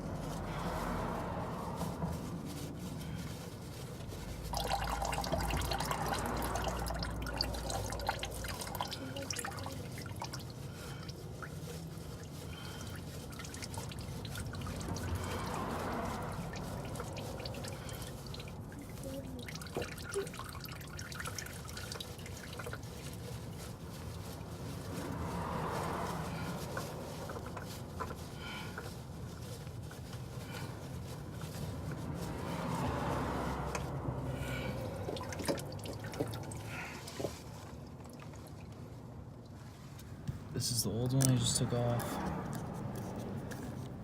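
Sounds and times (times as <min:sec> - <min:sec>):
oil dripping and trickling: 0:00.0 - 0:44.0.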